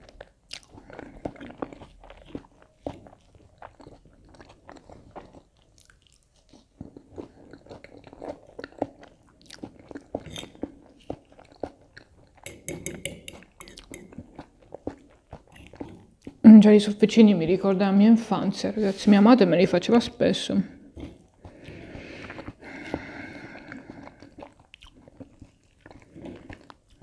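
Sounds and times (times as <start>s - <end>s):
chewing and crunching food: 0.0s - 17.0s, 20.7s - 27.0s.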